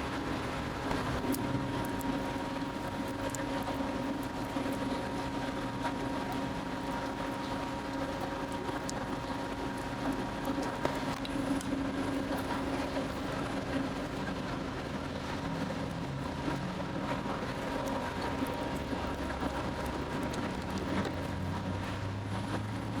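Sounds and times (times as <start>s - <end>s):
bakery machinery hum: 0.0s - 23.0s.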